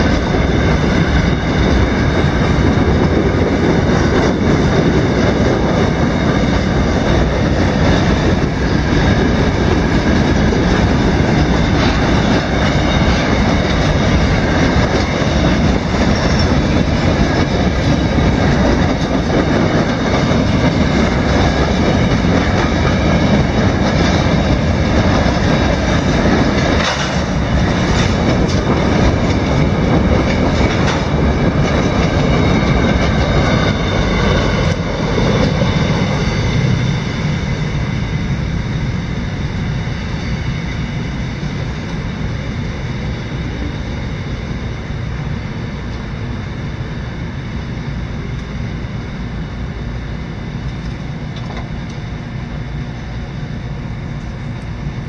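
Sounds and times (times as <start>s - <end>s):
freight train wheels rumbling and clacking: 0.0s - 55.0s.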